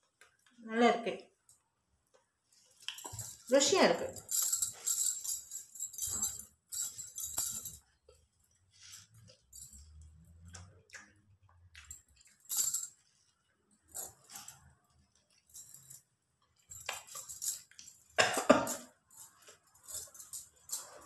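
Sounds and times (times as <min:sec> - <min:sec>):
metal bangles jingling: 0:02.6 - 0:10.8, 0:11.7 - 0:13.2, 0:13.8 - 0:21.0.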